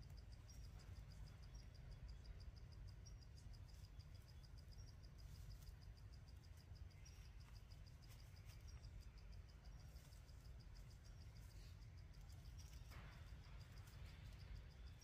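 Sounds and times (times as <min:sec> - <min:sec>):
high-pitched insect chirps: 0:00.0 - 0:15.0.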